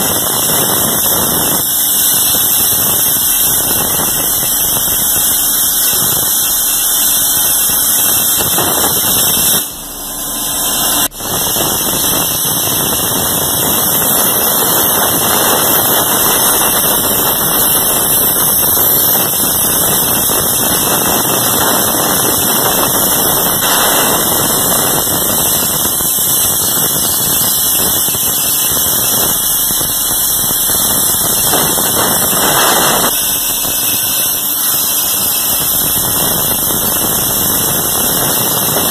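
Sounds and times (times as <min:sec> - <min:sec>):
plasma torch hissing: 0:00.0 - 0:38.9.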